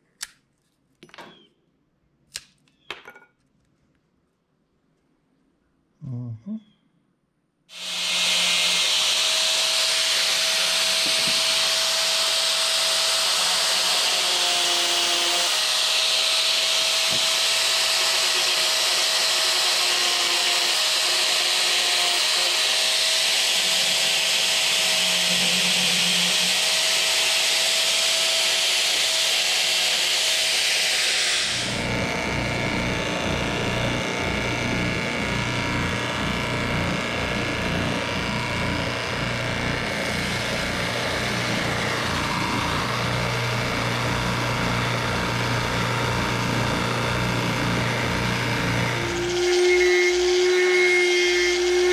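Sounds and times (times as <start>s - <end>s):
angle grinder grinding wood: 7.7s - 51.9s.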